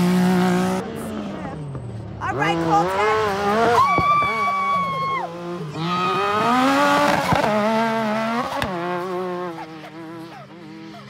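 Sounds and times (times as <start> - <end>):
utility vehicle engine accelerating: 0.0 - 11.0.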